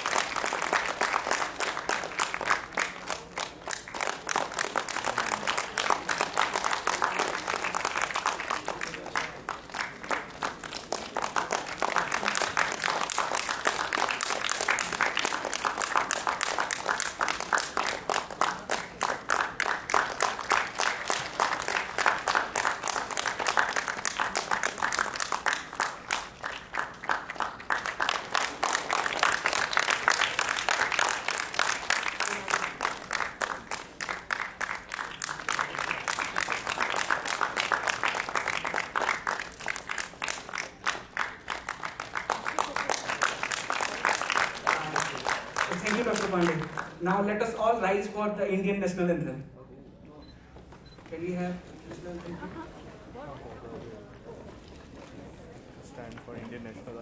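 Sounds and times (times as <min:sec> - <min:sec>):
audience applauding: 0:00.0 - 0:47.1.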